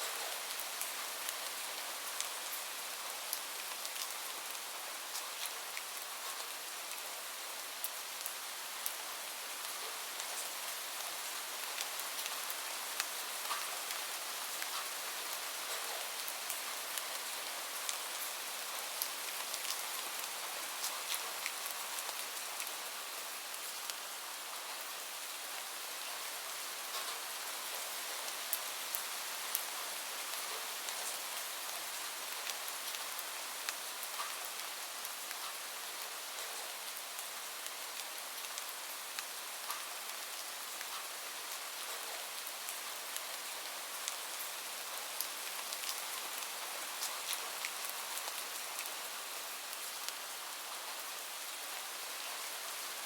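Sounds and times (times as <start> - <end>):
gentle rain falling: 0.0 - 53.0.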